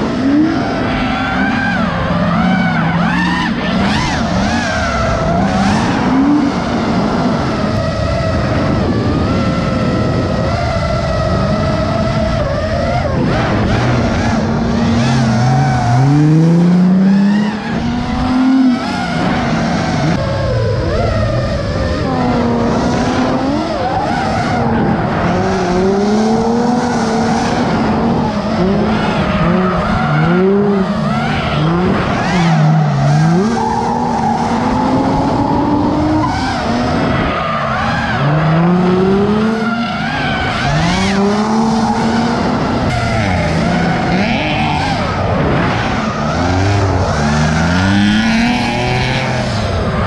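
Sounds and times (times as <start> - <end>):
car engines revving: 0.0 - 50.0
tires squealing: 0.0 - 50.0.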